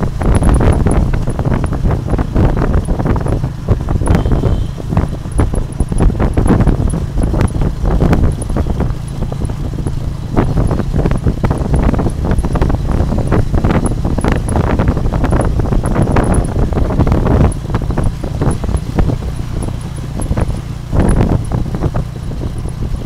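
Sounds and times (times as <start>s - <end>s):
carriage knocking and rattling: 0.0s - 23.0s
low engine hum: 0.0s - 23.0s
wind buffeting microphone: 0.0s - 23.0s.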